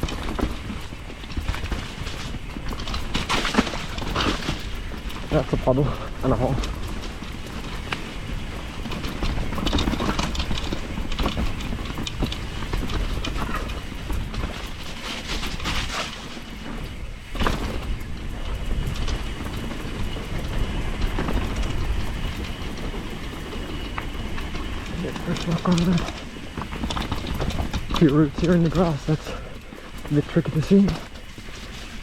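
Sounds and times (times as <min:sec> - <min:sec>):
bike rattling and knocking: 0:00.0 - 0:32.0
bike tyres rumbling on dirt: 0:00.0 - 0:32.0.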